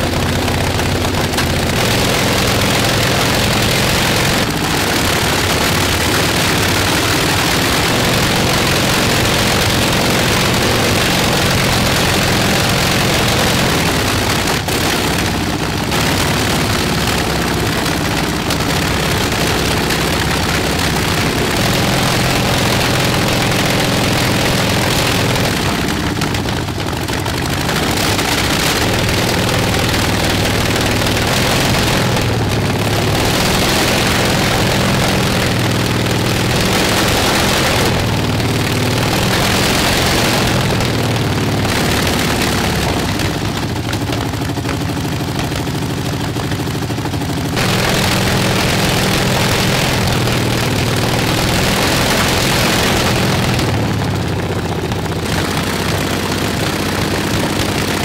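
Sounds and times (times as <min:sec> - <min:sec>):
radial aircraft engine running: 0:00.0 - 0:58.0.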